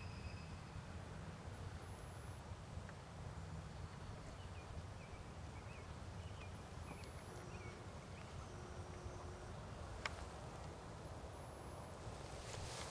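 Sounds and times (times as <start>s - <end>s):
distant small birds chirping: 0.0s - 12.9s.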